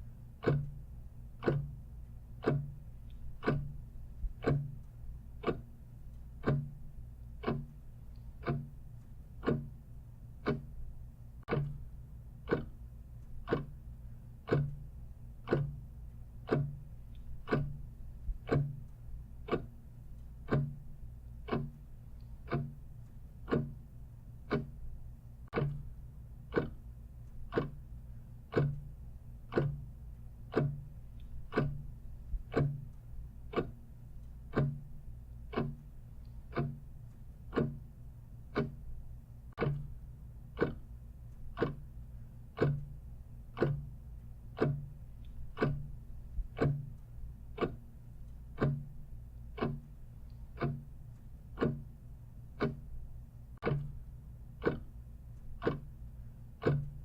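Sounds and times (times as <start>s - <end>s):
clock ticking: 0.0s - 57.0s
low steady hum: 0.0s - 57.0s.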